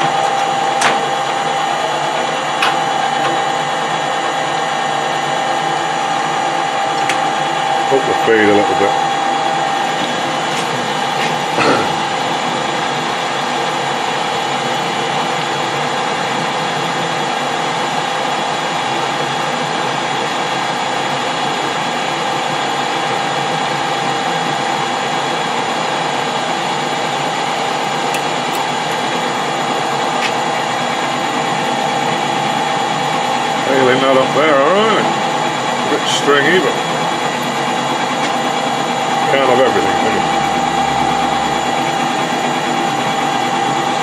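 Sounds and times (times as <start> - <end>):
lathe hum with gear whine: 0.0 - 44.0.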